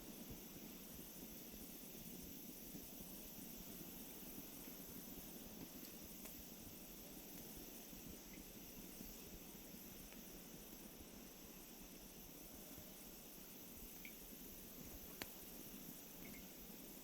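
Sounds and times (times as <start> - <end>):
campfire hissing and crackling: 0.0 - 17.0.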